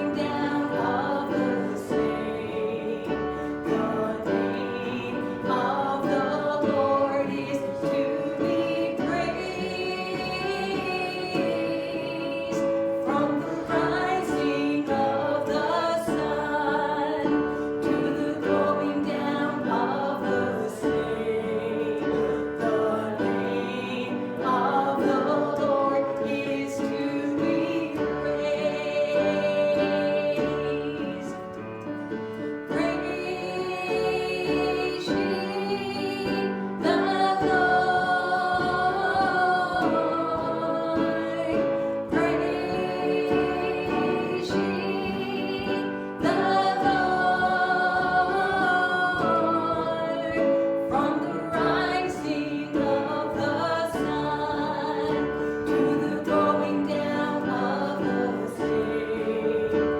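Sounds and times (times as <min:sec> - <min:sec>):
gospel choir singing: 0:00.0 - 0:59.9
guitar accompaniment: 0:00.0 - 0:59.9.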